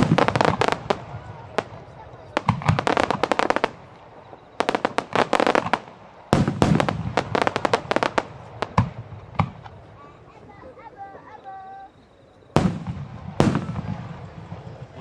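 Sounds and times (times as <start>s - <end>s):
fireworks crackling pops: 0.0s - 11.9s, 12.5s - 15.0s.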